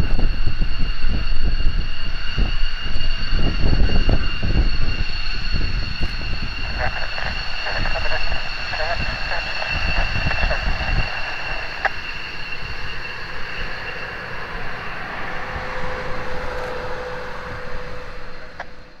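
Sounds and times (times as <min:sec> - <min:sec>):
jet engine high whine: 0:00.0 - 0:19.0
low rumble: 0:00.1 - 0:19.0.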